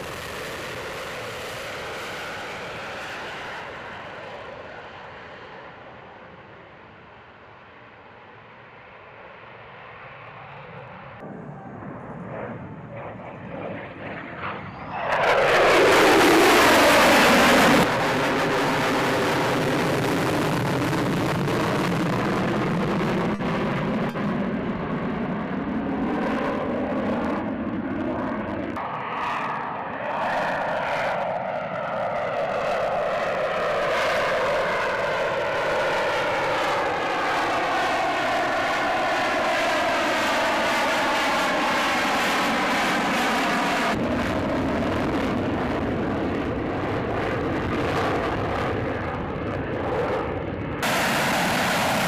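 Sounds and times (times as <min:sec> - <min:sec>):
jet engine roaring: 0:00.0 - 0:52.0.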